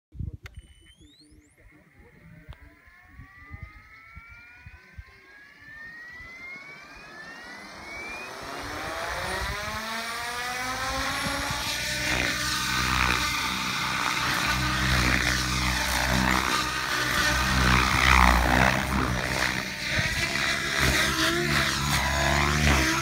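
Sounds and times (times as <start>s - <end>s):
motor and gear whine: 0.5s - 23.0s
helicopter rotor whoosh: 1.5s - 23.0s.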